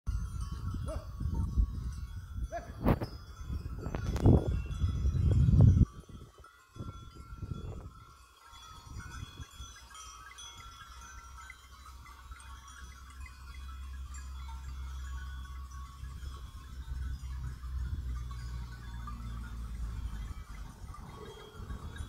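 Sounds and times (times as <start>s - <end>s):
goat bells clinking: 0.1s - 22.0s.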